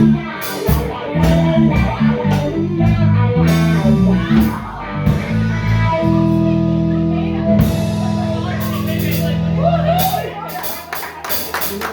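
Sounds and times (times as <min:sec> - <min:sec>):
bass line: 0:00.0 - 0:11.9
guitar playing: 0:00.0 - 0:11.9.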